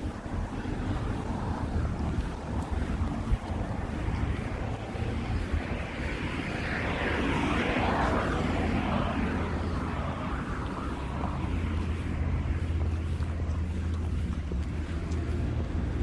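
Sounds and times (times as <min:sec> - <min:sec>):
low traffic rumble: 0:00.0 - 0:16.0
vehicle passing: 0:00.0 - 0:16.0.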